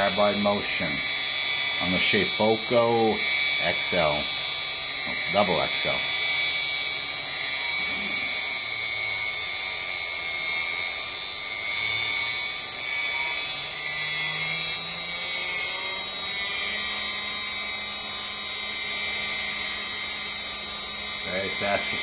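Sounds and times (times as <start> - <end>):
spindle whining: 0.0 - 16.5, 18.4 - 22.0.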